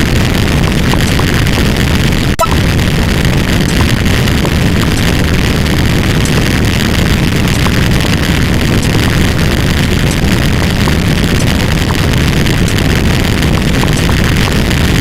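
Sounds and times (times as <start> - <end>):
loud wall of noise with rumble: 0.0 - 15.0.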